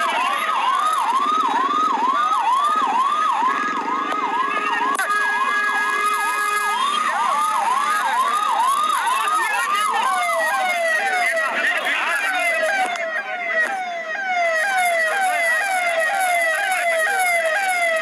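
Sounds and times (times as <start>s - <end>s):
siren whooping: 0.0s - 18.0s.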